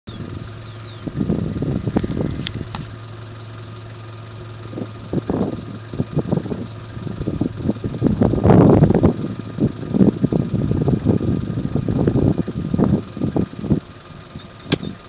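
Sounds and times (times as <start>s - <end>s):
wind buffeting microphone: 0.1s - 3.0s, 4.5s - 15.0s
steady low hum: 0.1s - 15.0s.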